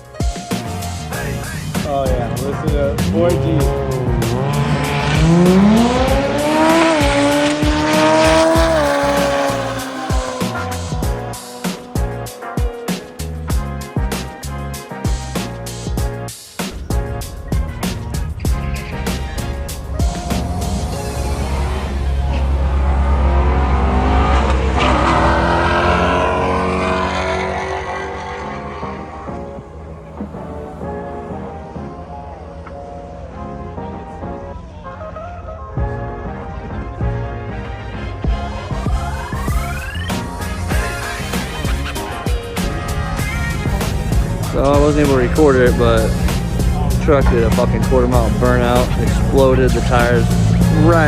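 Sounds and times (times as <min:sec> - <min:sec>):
background music with beat: 0:00.0 - 0:34.4, 0:35.8 - 0:51.0
race car engine accelerating: 0:00.5 - 0:51.0.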